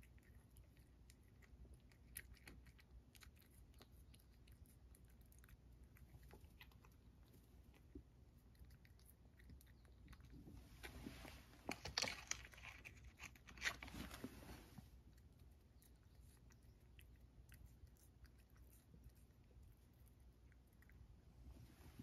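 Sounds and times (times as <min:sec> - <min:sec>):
cat crunching treats: 0:00.0 - 0:14.2, 0:15.0 - 0:21.2.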